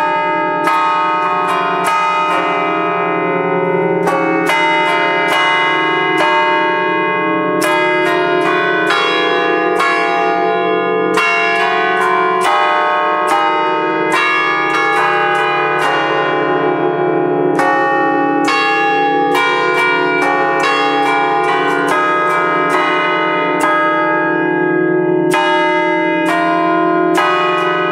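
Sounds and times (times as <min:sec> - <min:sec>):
church bells ringing a tune: 0:00.0 - 0:27.9.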